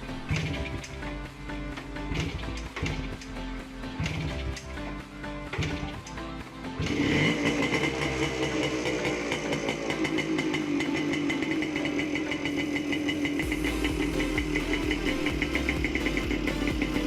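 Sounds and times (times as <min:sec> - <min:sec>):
two-stroke motorcycle engine idling: 0:00.0 - 0:17.0.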